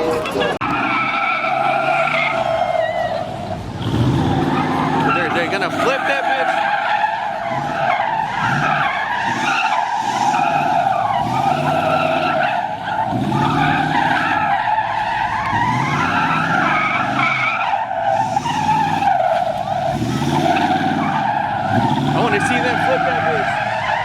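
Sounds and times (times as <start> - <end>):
tyres squealing: 0.0 - 24.0
engine revving: 3.6 - 6.7, 7.3 - 24.0.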